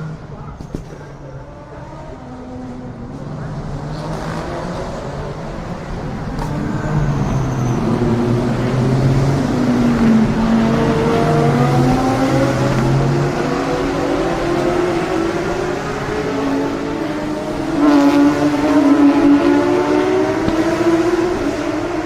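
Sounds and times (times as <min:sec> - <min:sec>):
race cars passing at speed: 0:00.0 - 0:22.0.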